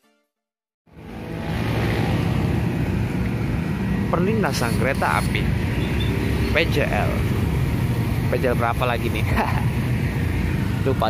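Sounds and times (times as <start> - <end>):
cars passing: 0.9 - 11.0
motorbikes passing: 0.9 - 11.0.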